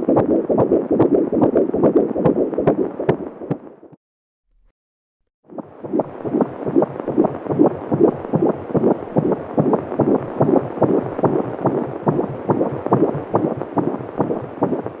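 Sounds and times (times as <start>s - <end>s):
fetal heartbeat whooshing pulse: 0.0s - 4.0s, 5.5s - 15.0s.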